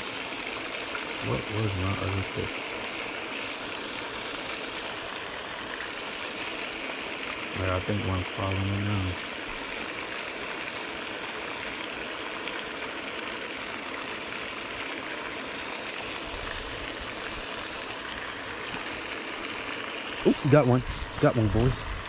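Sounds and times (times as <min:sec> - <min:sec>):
fountain splashing onto water: 0:00.0 - 0:22.0.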